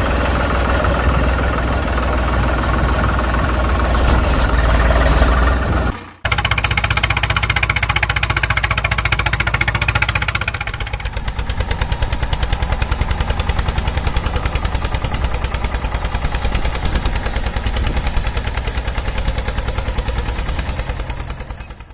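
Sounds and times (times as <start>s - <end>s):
vehicle engine chugging: 0.0s - 21.9s.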